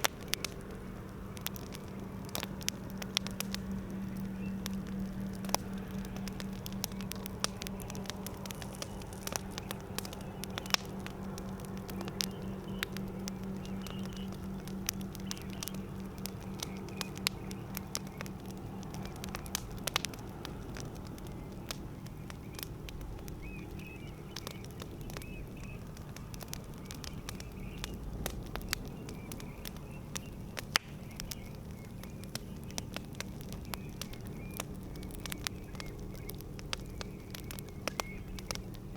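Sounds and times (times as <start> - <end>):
campfire crackling and popping: 0.0 - 38.9
low fire hiss: 0.0 - 38.9.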